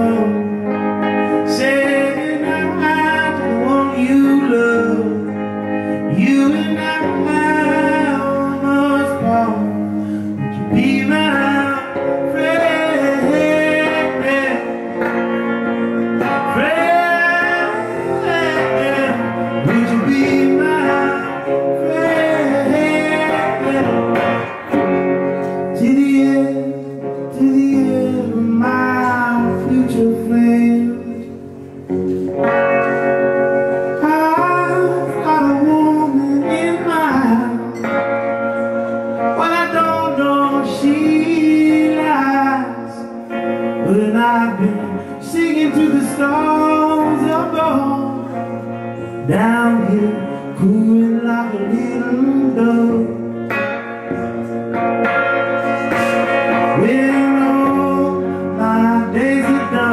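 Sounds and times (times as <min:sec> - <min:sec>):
man singing: 0:00.0 - 0:32.2, 0:33.6 - 0:54.5, 0:55.6 - 0:59.9
acoustic guitar: 0:00.0 - 0:59.9.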